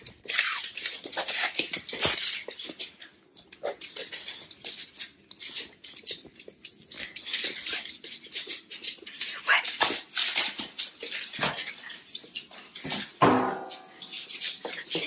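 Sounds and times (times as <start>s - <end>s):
dog claws clicking on wood floor: 0.0s - 15.0s.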